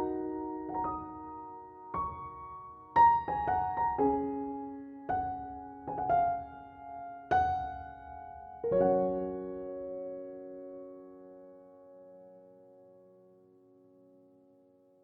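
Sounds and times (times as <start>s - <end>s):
piano music: 0.0s - 12.9s.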